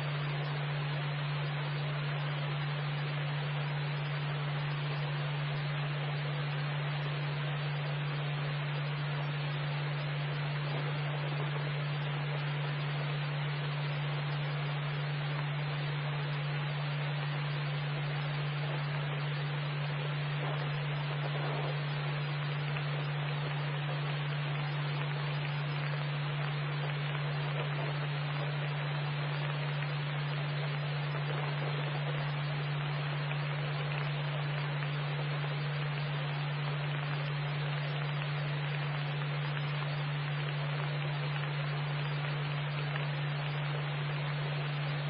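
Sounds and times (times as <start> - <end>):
constant low hum: 0.0 - 45.0
radio static hiss: 0.0 - 45.0.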